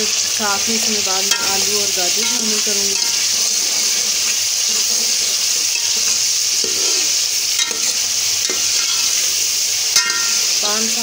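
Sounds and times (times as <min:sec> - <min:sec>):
masala sizzling in oil: 0:00.0 - 0:11.0
metal spoon stirring: 0:01.2 - 0:11.0.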